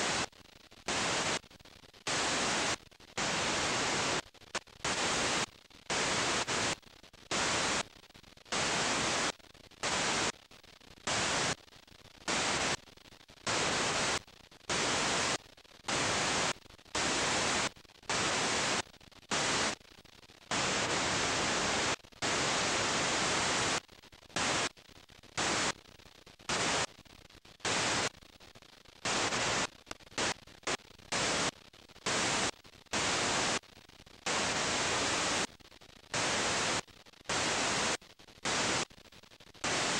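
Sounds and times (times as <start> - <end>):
videotape static hiss: 0.0 - 39.9.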